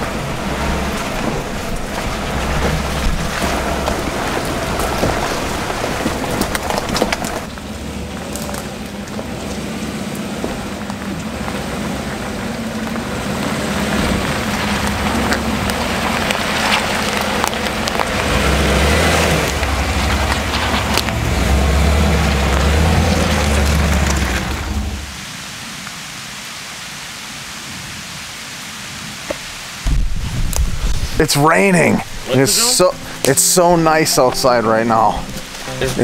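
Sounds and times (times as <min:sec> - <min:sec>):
truck engine rumble: 0:00.0 - 0:25.3, 0:29.8 - 0:36.0.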